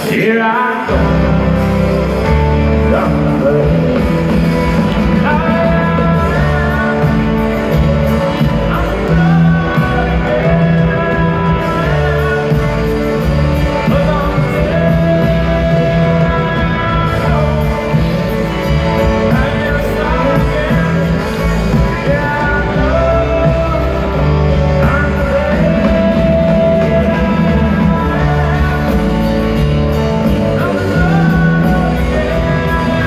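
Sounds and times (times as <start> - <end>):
live country rock band: 0.0 - 33.0.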